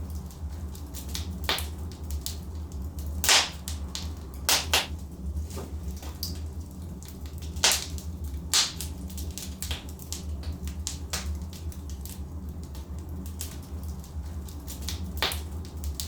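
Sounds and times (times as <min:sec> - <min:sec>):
logs crackling in fireplace: 0:00.0 - 0:16.0.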